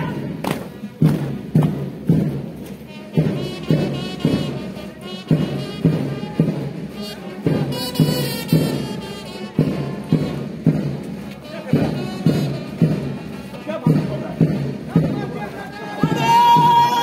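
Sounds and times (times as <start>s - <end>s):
brass band march music: 0.0s - 17.0s
steady drum beat: 0.0s - 17.0s.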